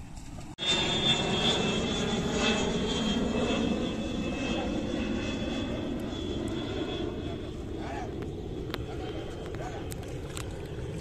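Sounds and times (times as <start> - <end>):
engine drone: 0.0 - 11.0
faint high whine: 0.1 - 11.0.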